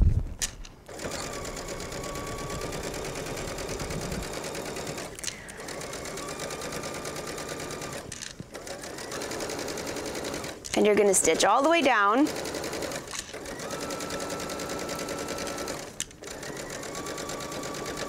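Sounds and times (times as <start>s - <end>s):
sewing machine stitching: 0.9s - 18.0s.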